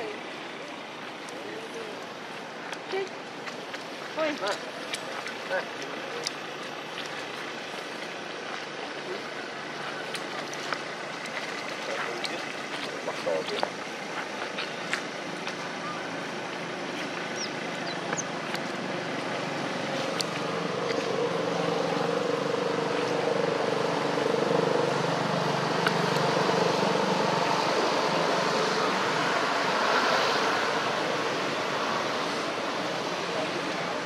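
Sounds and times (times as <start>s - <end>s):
vehicle engine hum: 4.2s - 34.0s.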